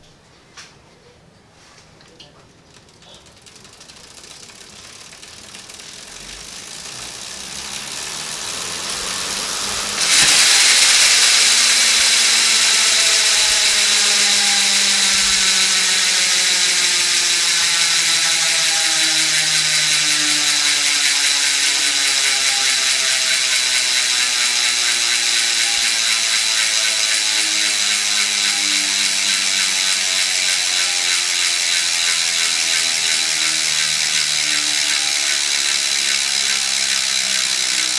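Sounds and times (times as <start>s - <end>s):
bicycle freehub clicking: 2.5s - 37.9s.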